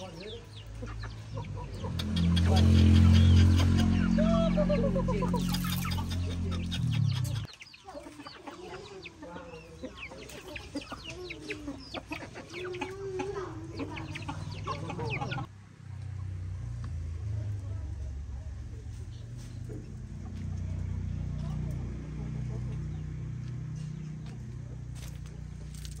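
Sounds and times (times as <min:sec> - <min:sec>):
chickens clucking: 0:00.0 - 0:16.4, 0:18.5 - 0:26.0.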